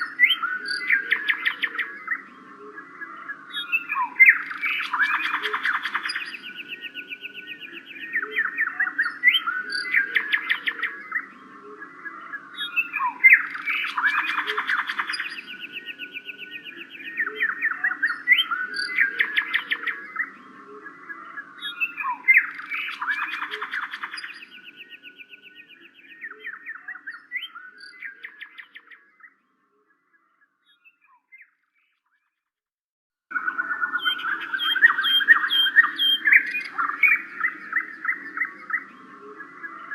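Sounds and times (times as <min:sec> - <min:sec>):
birds chirping: 0:00.0 - 0:32.3, 0:33.3 - 0:39.9.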